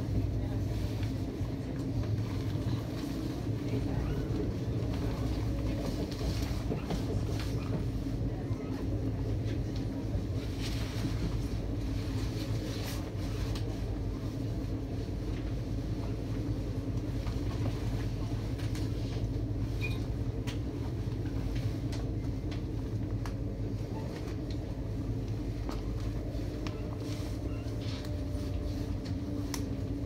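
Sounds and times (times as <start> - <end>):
train engine rumble and hum: 0.0 - 30.0.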